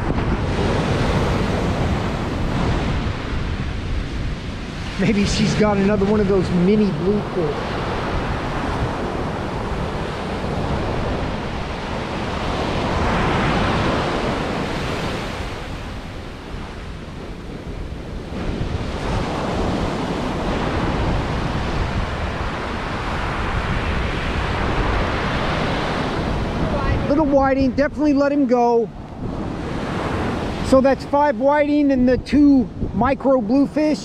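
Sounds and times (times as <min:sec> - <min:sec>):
ocean surf washing: 0:00.0 - 0:34.0
wind on microphone: 0:00.0 - 0:34.0.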